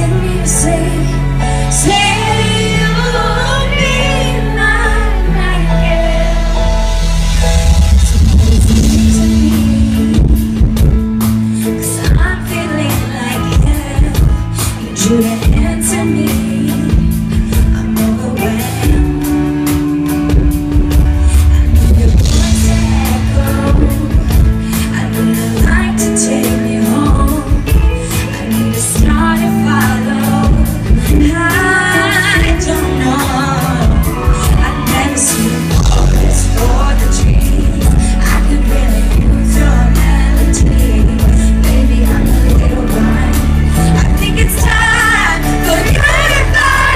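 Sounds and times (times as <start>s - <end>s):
band playing pop ballad: 0.0s - 46.9s
woman singing: 0.0s - 46.9s.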